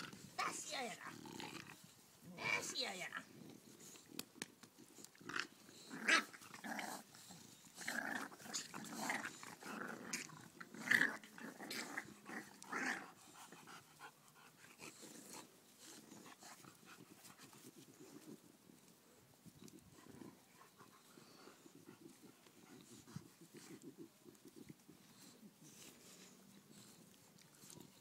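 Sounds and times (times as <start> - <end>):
dogs growling in play: 0.0 - 28.0.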